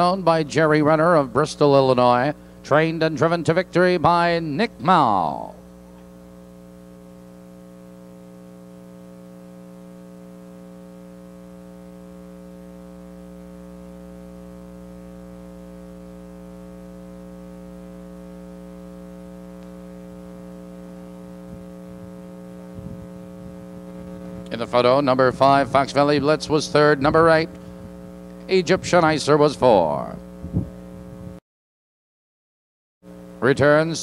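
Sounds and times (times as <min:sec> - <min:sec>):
electrical mains hum: 0:00.0 - 0:31.4, 0:33.1 - 0:34.0.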